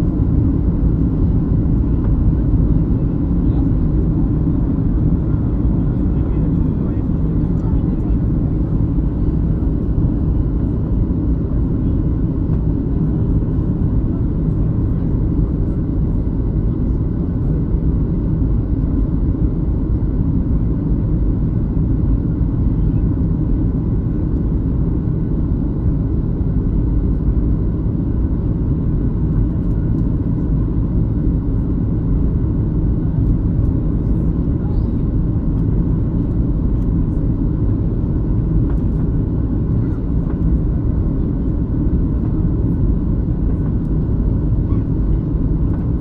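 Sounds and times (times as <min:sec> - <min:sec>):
jet engine rumble in cabin: 0:00.0 - 0:46.0.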